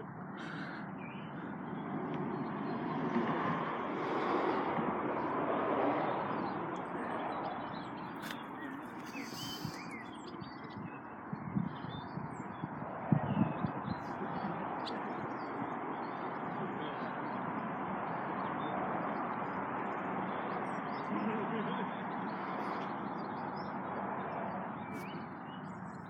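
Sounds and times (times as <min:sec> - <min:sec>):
small birds chirping: 0:00.0 - 0:03.2, 0:06.1 - 0:26.0.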